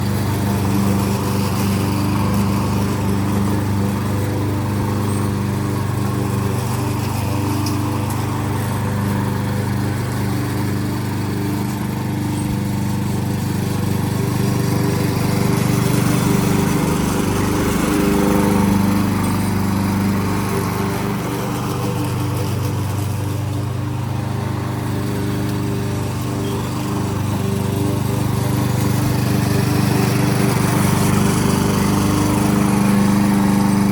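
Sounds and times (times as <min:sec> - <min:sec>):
lawn mower engine running: 0:00.0 - 0:33.9.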